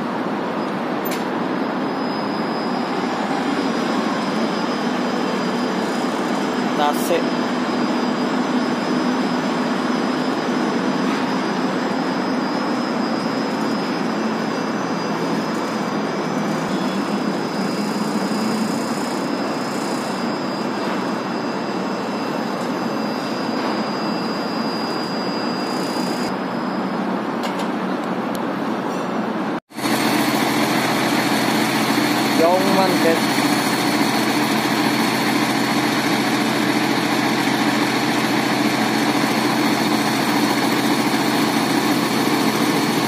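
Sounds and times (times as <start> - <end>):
thin high whine: 0.0 - 29.1, 29.7 - 43.0.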